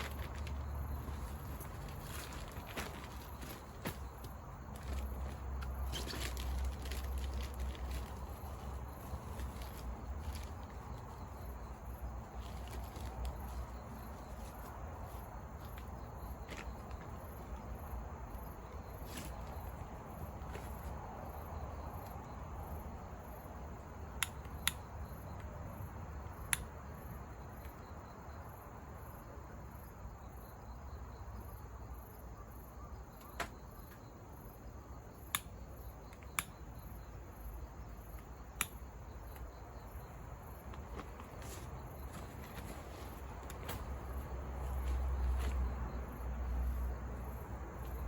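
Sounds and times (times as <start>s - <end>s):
insect chirping: 0.0s - 48.0s.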